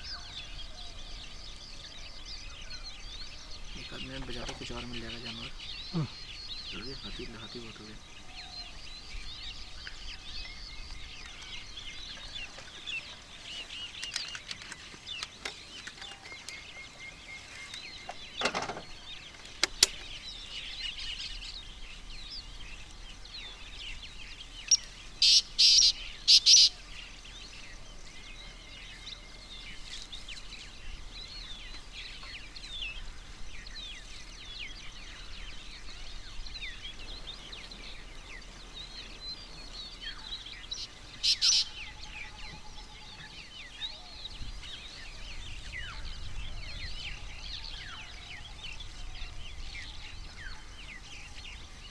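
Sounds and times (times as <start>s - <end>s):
birds chirping: 0.0s - 51.9s
outdoor background hiss: 0.0s - 51.9s.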